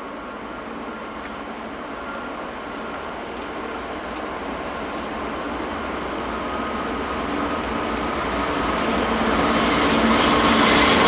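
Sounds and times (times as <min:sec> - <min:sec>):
diesel locomotive approaching: 0:00.0 - 0:11.0.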